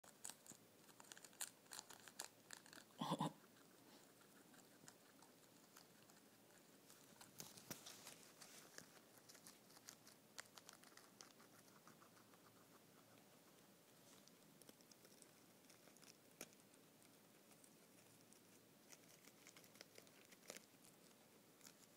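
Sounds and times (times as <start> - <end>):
guinea pig chewing lettuce: 0.0 - 21.9.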